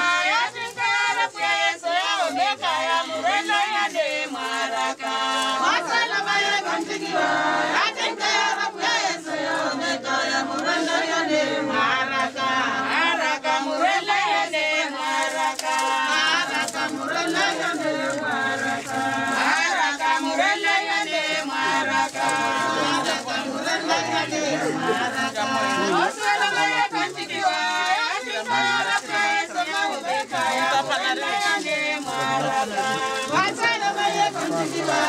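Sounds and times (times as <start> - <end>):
crowd singing together: 0.0 - 35.0.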